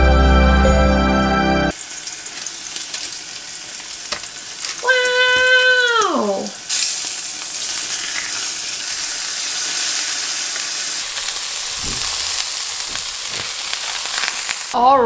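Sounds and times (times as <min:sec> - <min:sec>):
steak sizzling in a skillet: 0:01.7 - 0:14.8.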